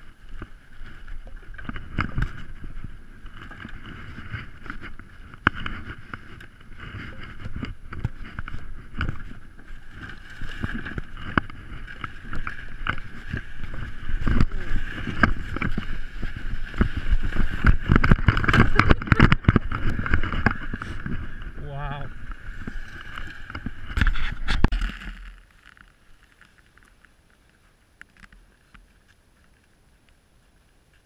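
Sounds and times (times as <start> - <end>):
plastic sled scraping over snow: 0.0 - 31.0.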